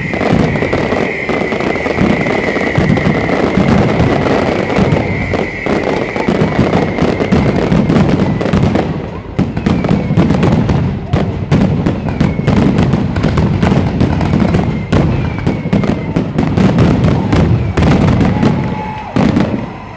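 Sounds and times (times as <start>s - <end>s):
faint high whistles: 0.0s - 10.6s, 11.7s - 13.4s, 14.1s - 19.9s
fireworks bangs: 0.0s - 19.9s
fireworks crackling: 0.0s - 19.9s.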